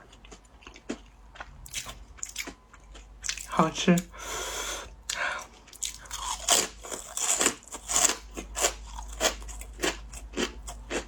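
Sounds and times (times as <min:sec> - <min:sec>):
person chewing crisp crackers: 0:00.0 - 0:11.0.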